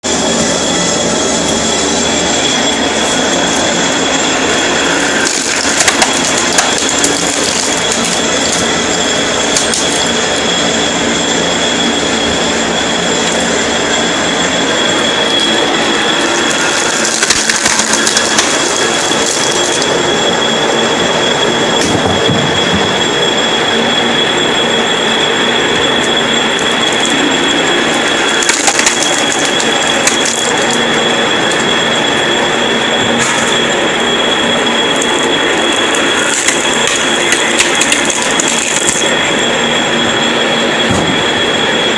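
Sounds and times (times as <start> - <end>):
lathe whining: 0.0 - 41.9
wood squealing and creaking: 0.0 - 41.9.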